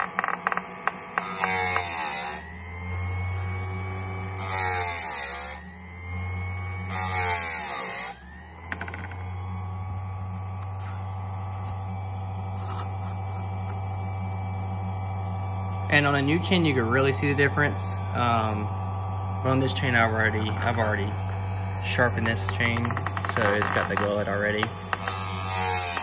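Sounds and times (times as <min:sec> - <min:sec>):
chain sharpener grinding: 0:00.0 - 0:09.6, 0:10.3 - 0:14.3, 0:15.7 - 0:26.0
grinding wheel humming: 0:00.0 - 0:26.0.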